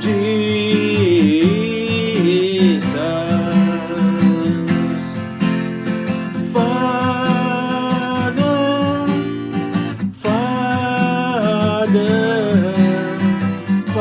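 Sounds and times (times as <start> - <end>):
person singing: 0.0 - 5.2, 6.5 - 9.5, 10.2 - 14.0
strummed acoustic guitar: 0.0 - 14.0.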